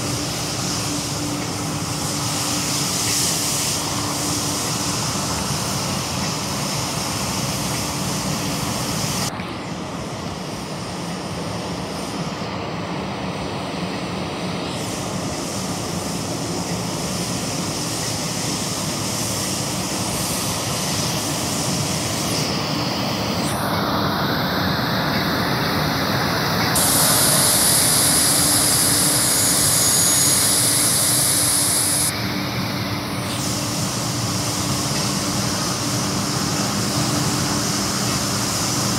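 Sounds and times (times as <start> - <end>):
street sweeper engine and blower: 0.0 - 38.9
sweeper hiss: 0.0 - 38.9.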